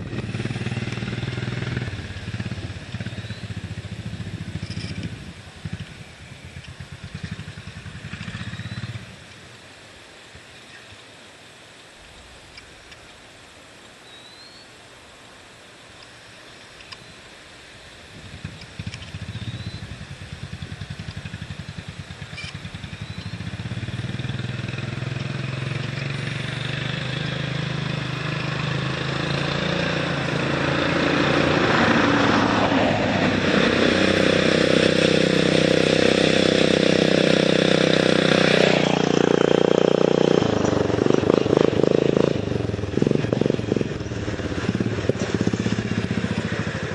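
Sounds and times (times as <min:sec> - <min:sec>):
racing lawnmower engine passing: 0:00.0 - 0:10.4, 0:17.5 - 0:46.9.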